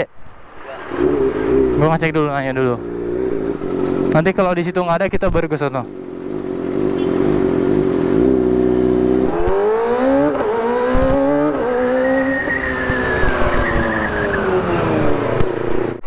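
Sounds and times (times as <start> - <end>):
motorcycle engine accelerating: 0.6 - 16.0.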